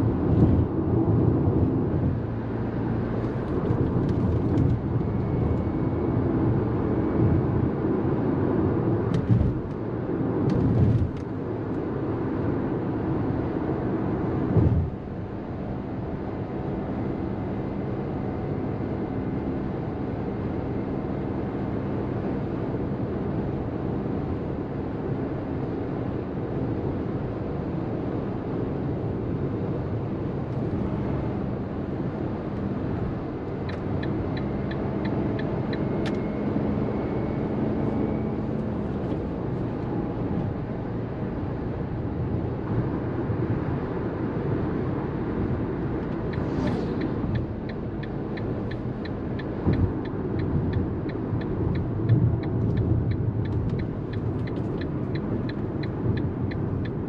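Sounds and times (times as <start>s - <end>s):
road rumble: 0.0s - 57.0s.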